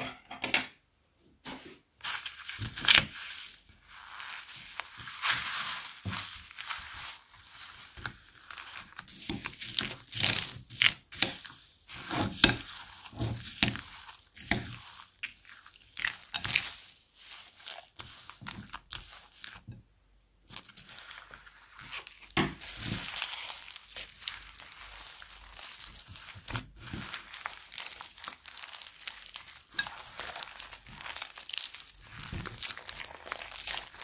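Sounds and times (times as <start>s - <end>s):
slime with beads crunching: 2.0s - 34.0s.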